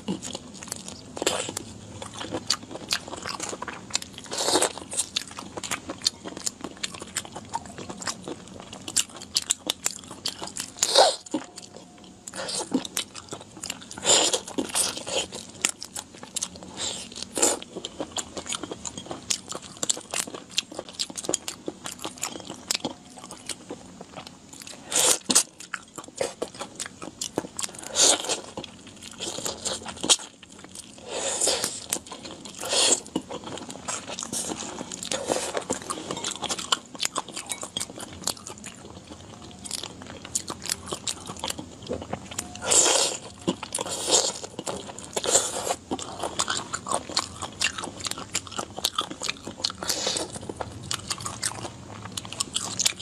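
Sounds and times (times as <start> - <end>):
wet chewing: 0.0 - 53.0.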